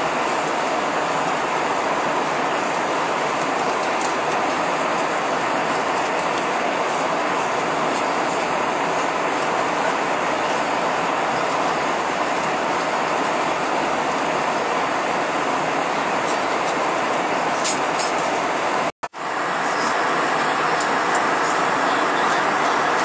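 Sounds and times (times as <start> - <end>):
air rushing along fuselage: 0.0 - 23.0
jet engines humming: 0.0 - 23.0.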